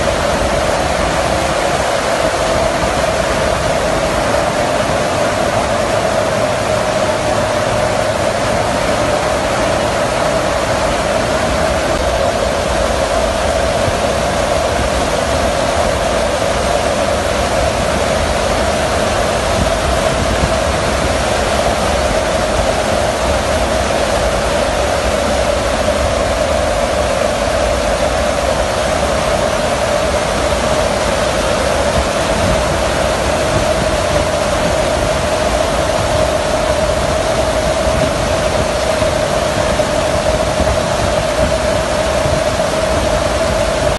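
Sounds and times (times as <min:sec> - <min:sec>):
constant droning note: 0:00.0 - 0:43.9
wind and engine roar: 0:00.0 - 0:43.9.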